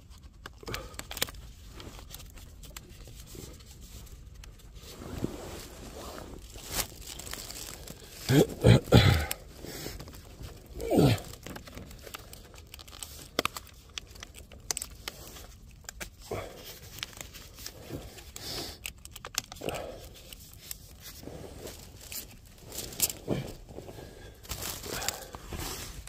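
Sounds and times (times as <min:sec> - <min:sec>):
pipe lagging crinkling and tearing: 0:00.0 - 0:26.0.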